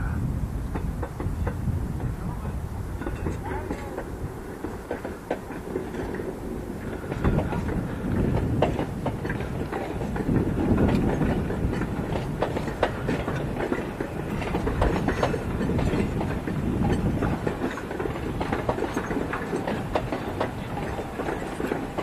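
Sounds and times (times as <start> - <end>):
train cars rumbling on track: 0.0 - 22.0
wheels clicking over rail joints: 0.7 - 2.2, 2.9 - 22.0.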